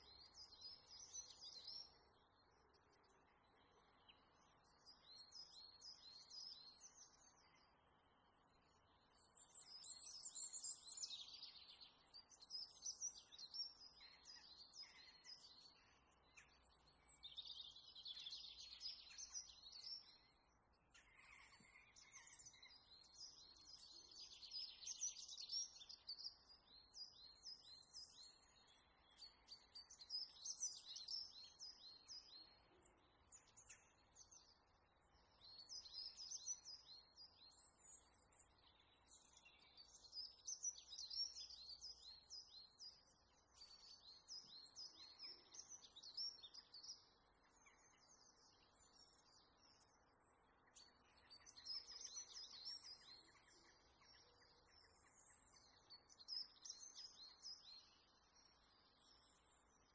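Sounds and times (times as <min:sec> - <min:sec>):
low steady background hiss: 0:00.0 - 0:59.9
small birds chirping: 0:00.0 - 0:59.9.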